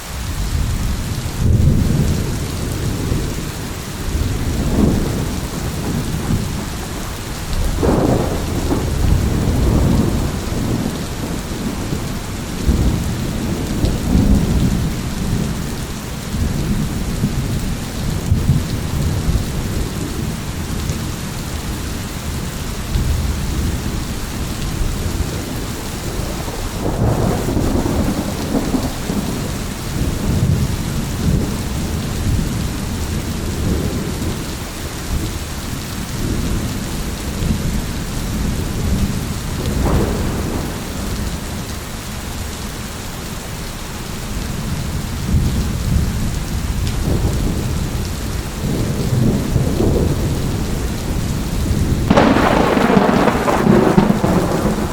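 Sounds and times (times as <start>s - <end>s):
heavy rain: 0.0s - 54.9s
rolling thunder: 0.4s - 21.2s, 22.9s - 34.5s, 36.1s - 41.8s, 44.6s - 54.9s.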